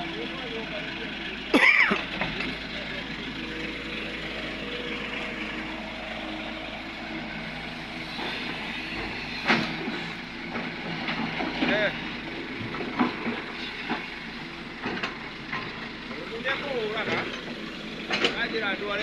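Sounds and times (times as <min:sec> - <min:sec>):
heavy machinery running: 0:00.0 - 0:19.0.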